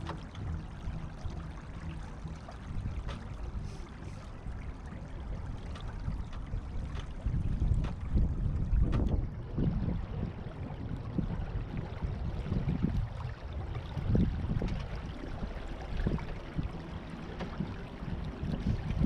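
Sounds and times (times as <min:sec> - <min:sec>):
water gurgling along boat hull: 0:00.0 - 0:19.0
wind rumbling on microphone: 0:00.0 - 0:19.0.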